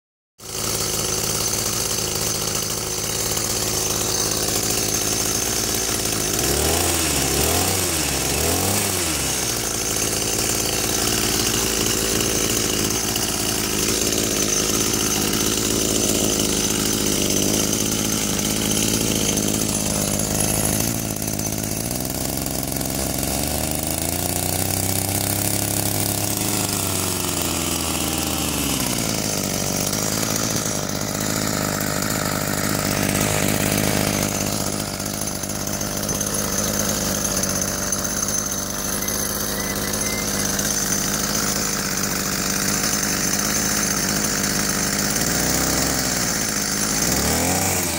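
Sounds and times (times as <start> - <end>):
drill rig engine revving: 0.4 - 47.9.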